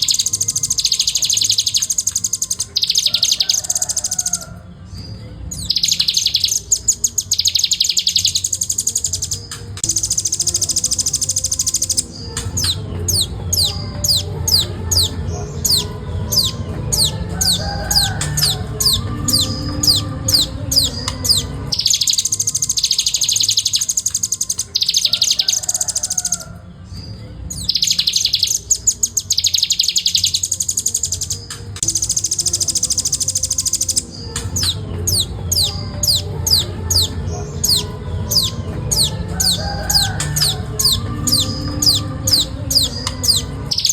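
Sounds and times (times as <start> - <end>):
bird chattering trills: 0.0 - 4.7, 5.5 - 26.6, 27.5 - 43.9
bird calling with sharp high notes: 0.0 - 43.9.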